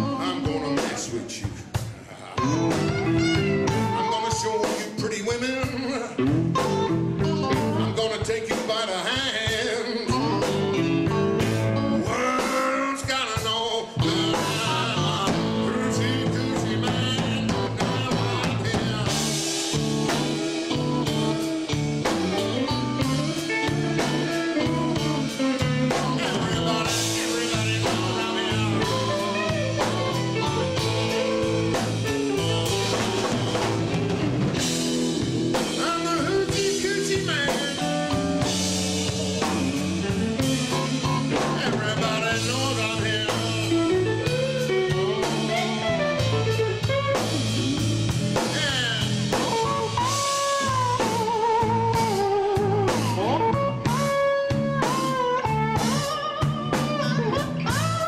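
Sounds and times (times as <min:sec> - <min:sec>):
bass line: 0:00.0 - 0:08.5, 0:09.9 - 0:58.0
electric guitar lead: 0:00.0 - 0:08.5, 0:09.4 - 0:58.0
drum kit: 0:00.0 - 0:58.0.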